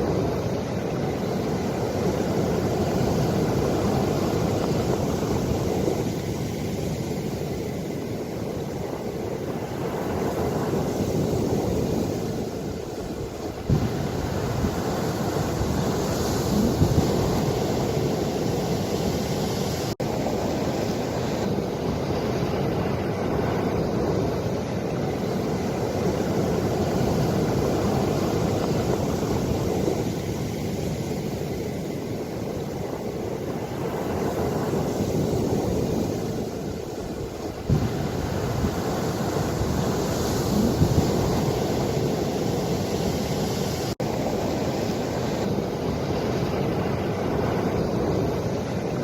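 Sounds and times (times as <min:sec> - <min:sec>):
ocean waves washing in: 0:00.0 - 0:49.0
wind rumbling on microphone: 0:00.0 - 0:49.0.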